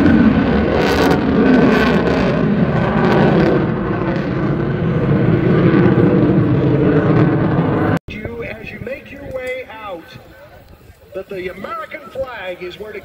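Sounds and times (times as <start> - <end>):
jet flying overhead: 0.0 - 13.0.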